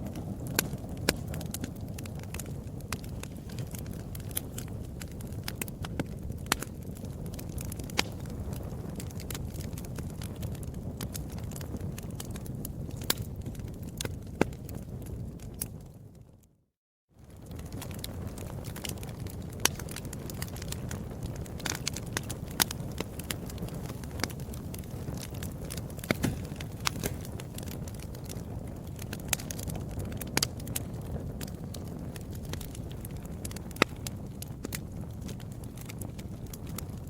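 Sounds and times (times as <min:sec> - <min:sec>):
fire crackling in a fireplace: 0:00.0 - 0:37.0.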